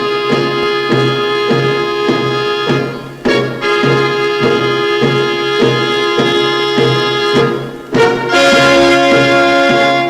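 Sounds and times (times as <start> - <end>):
instrumental music with bass and chords: 0.0 - 10.0.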